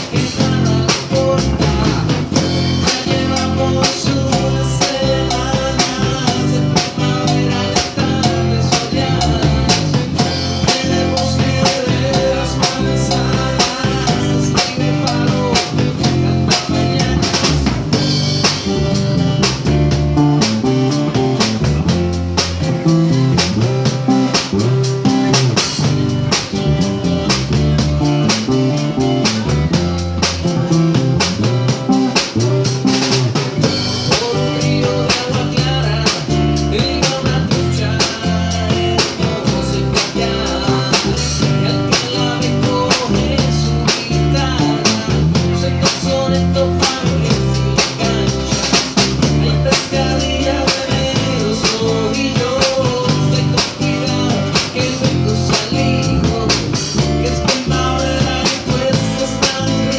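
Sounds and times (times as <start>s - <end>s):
acoustic guitars: 0.0s - 59.9s
drum kit beat: 0.0s - 59.9s.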